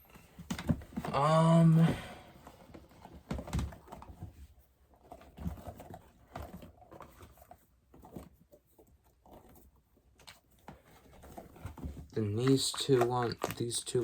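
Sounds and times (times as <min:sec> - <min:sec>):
small toys clicking and rustling: 0:02.4 - 0:14.0.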